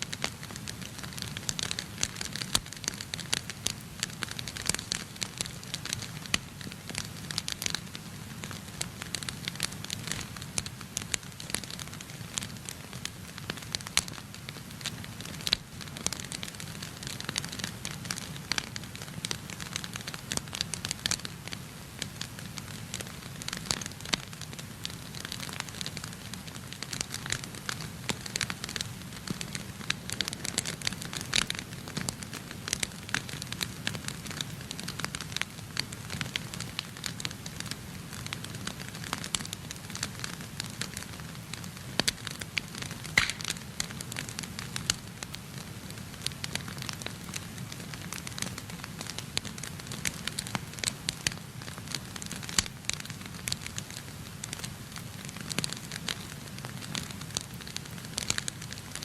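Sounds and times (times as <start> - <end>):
fire crackles and snaps: 0.0 - 59.0
low rumble of flames: 0.1 - 59.0.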